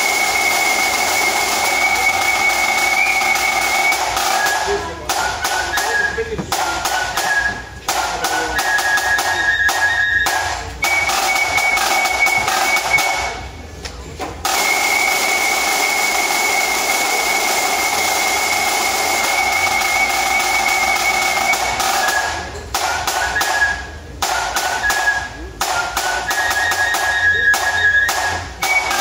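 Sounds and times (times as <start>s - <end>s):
fifes playing high notes: 0.0s - 13.7s, 14.4s - 29.0s
side drum strokes: 0.0s - 13.7s, 14.3s - 29.0s.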